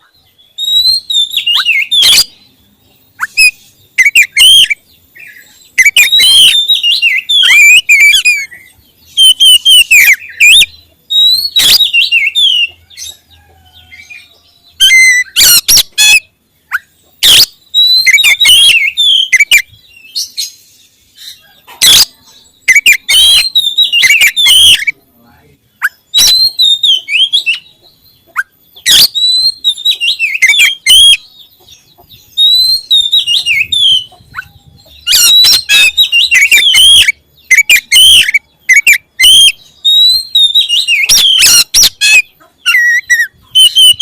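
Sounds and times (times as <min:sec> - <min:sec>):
magpie-robin singing whistled phrases: 0:00.0 - 0:13.2, 0:13.8 - 0:31.5, 0:32.1 - 0:44.0.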